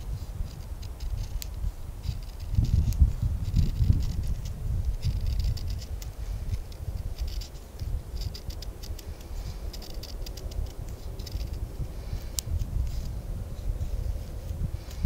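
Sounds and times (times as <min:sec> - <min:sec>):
knife scraping wood: 0:00.0 - 0:13.2.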